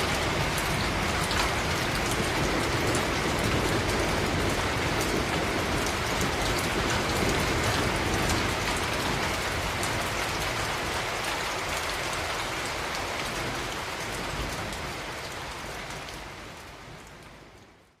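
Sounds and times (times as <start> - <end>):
rain drops pattering: 0.0 - 18.0.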